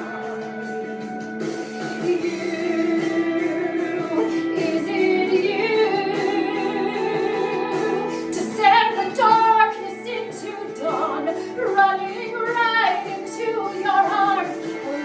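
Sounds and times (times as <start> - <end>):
instrumental accompaniment: 0.0 - 15.0
woman singing with vibrato: 2.0 - 15.0.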